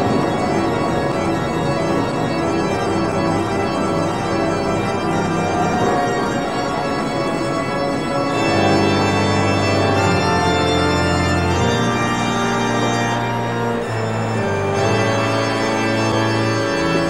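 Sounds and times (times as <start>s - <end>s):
organ music: 0.0s - 17.0s.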